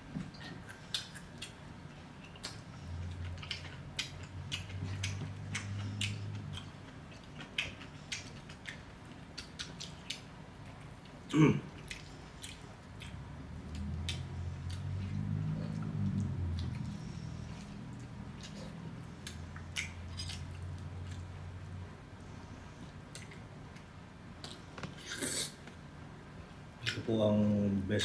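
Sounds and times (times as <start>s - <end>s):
wet chewing: 0.4s - 21.5s, 22.7s - 25.5s.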